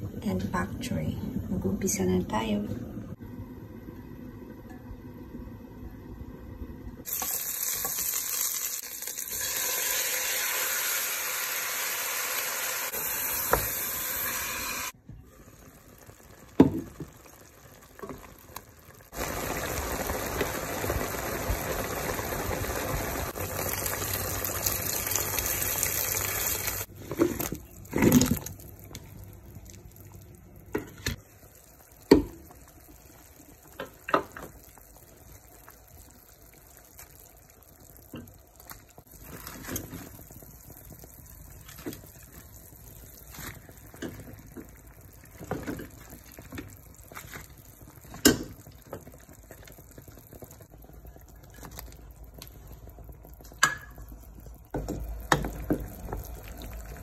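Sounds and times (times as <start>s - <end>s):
chicken sizzling and bubbling: 3.1s - 57.0s
onions sizzling in oil: 7.0s - 57.0s.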